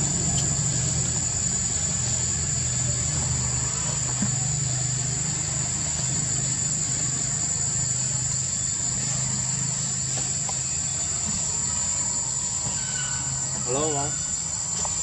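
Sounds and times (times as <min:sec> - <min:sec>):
insects droning: 0:00.0 - 0:15.0
low mechanical hum: 0:00.0 - 0:15.0.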